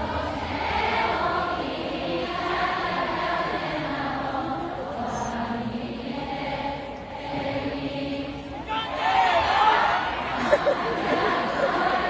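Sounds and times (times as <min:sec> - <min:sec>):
crowd singing together: 0:00.0 - 0:12.0.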